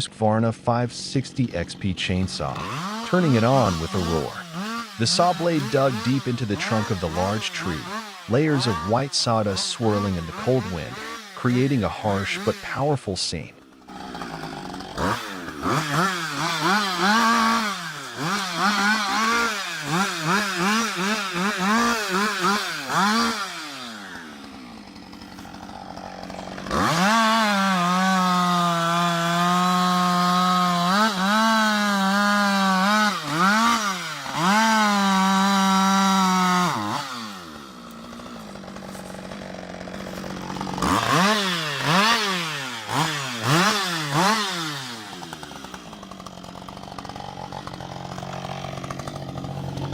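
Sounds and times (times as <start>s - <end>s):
chainsaw cutting tree trunk: 0.0s - 49.9s
chainsaw revving and idling: 0.0s - 49.9s.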